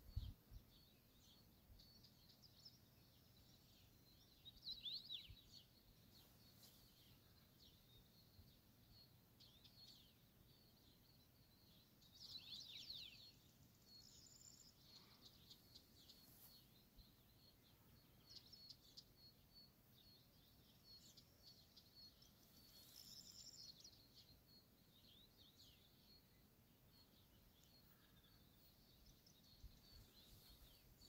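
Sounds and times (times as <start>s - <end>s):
faint birdsong chirps and trills: 0.0s - 31.0s.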